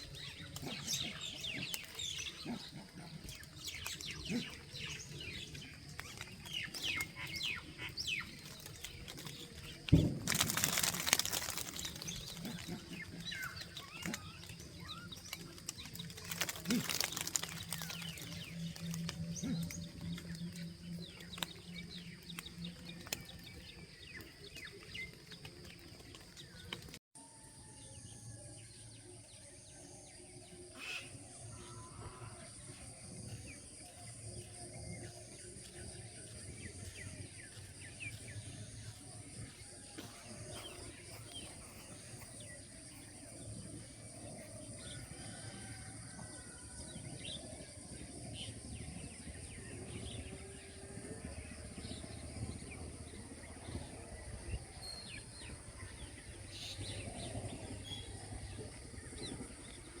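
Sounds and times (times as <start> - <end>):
birds chirping: 0.0 - 27.0, 28.8 - 60.0.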